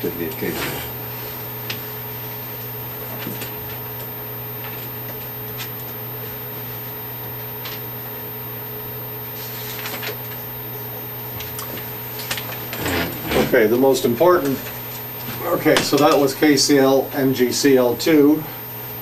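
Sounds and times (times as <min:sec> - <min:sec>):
electrical fan hum: 0:00.0 - 0:19.0.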